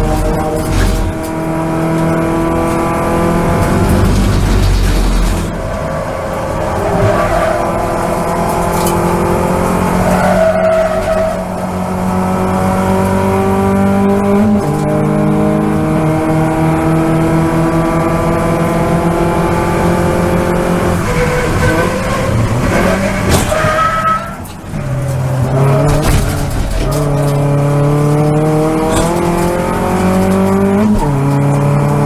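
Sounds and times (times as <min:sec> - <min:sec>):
race car engine at full throttle: 0:00.0 - 0:32.0.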